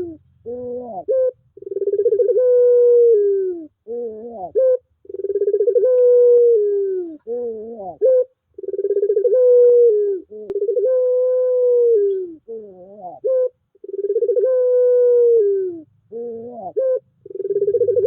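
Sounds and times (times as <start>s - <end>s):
dove cooing: 0.0s - 18.0s.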